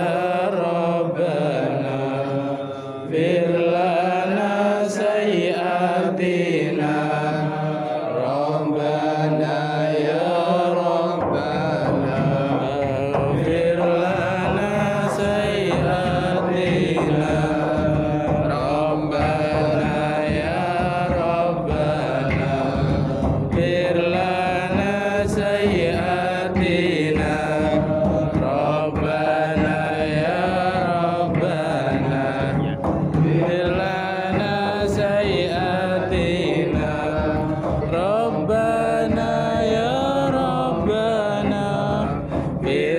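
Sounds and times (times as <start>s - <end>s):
voices chanting devotional chant: 0.0s - 42.9s.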